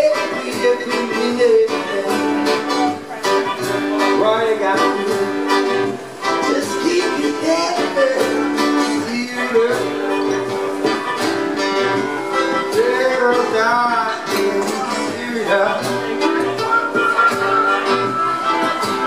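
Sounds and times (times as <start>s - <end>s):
acoustic guitar strumming: 0.0s - 19.0s
man singing: 0.0s - 19.0s.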